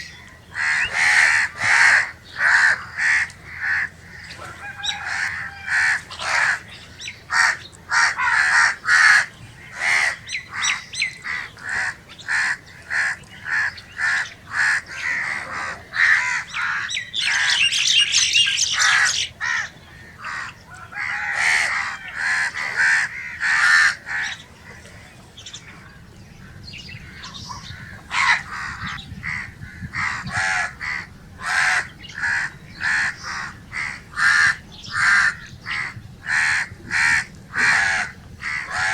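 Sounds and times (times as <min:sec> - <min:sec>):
crows cawing: 0:00.5 - 0:17.8, 0:18.4 - 0:25.0, 0:26.5 - 0:38.9.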